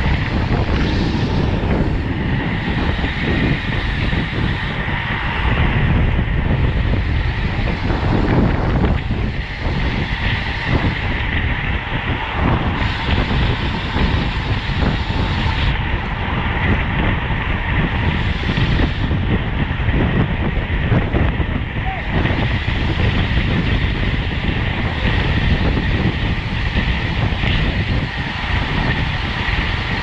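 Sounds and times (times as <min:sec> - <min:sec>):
bicycle road rumble: 0:00.0 - 0:30.0
wind over microphone: 0:00.0 - 0:30.0.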